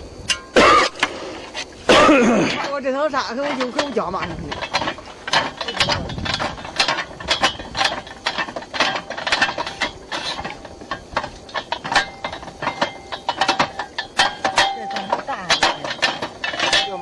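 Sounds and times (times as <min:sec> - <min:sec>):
drilling rig metal clanking: 0:00.2 - 0:17.0.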